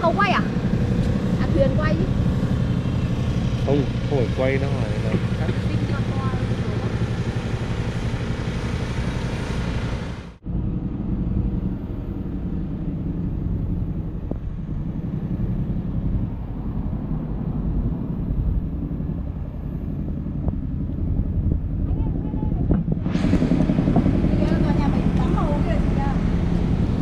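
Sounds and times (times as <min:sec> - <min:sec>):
vehicle low rumble: 0:00.0 - 0:27.0.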